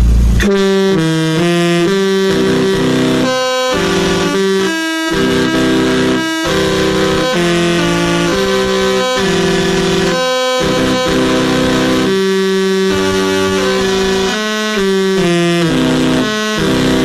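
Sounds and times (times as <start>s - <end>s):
loud melody of sustained chords: 0.0s - 17.0s.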